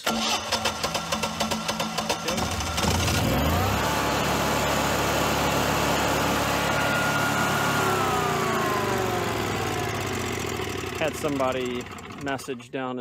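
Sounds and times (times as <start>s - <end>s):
generator engine running: 0.0s - 12.7s.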